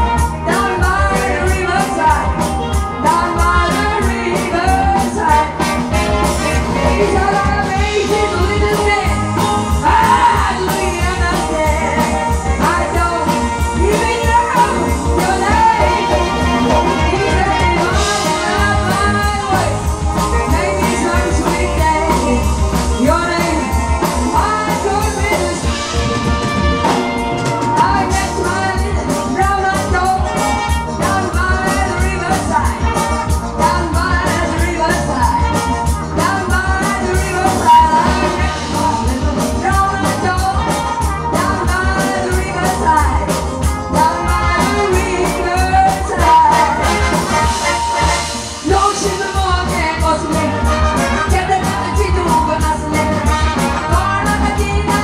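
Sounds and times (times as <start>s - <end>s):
woman singing into microphone: 0.0s - 26.2s, 27.6s - 55.0s
amplified backing music with beat: 0.0s - 55.0s.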